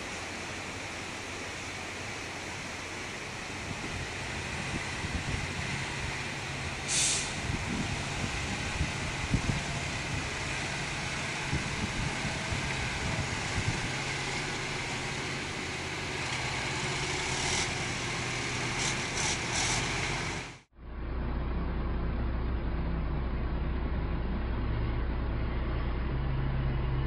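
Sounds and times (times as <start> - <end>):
engine drone inside truck cab: 0.0 - 27.0
truck engines running: 0.0 - 27.0.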